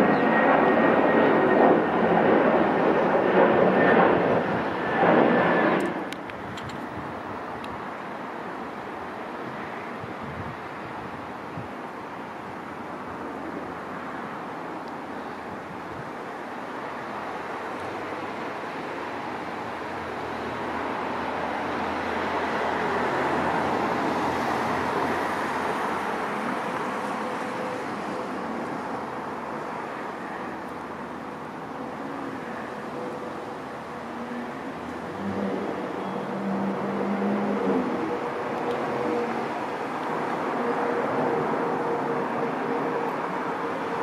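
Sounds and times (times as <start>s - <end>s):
aircraft engines passing: 0.0s - 44.0s.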